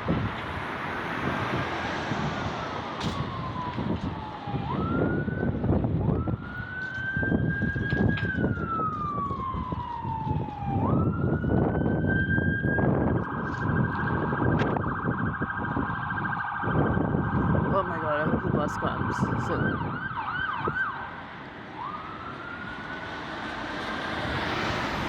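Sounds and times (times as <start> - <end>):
emergency vehicle siren wailing: 0.0 - 25.0
traffic noise: 0.0 - 25.0.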